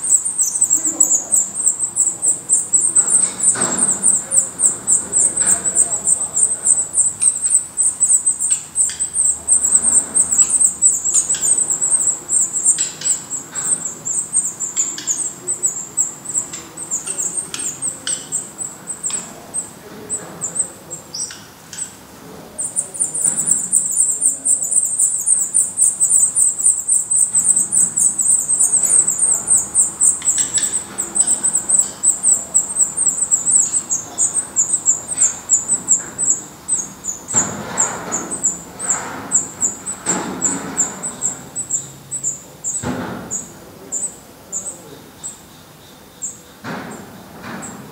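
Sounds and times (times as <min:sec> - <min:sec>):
nestlings cheeping: 0:00.0 - 0:47.9.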